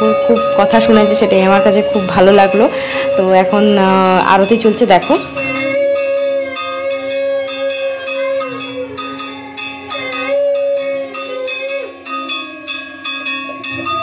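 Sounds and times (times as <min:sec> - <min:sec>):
hand bell ringing: 0:00.0 - 0:14.0
steady held tones: 0:00.0 - 0:14.0.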